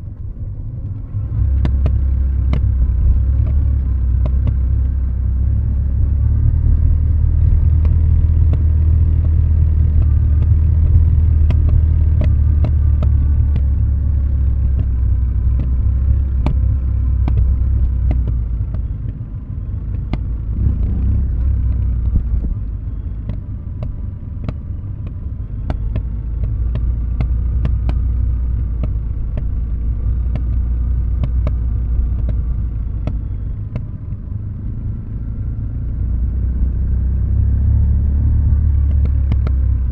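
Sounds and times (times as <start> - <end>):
motorcycle engine burbling: 0.0 - 39.9.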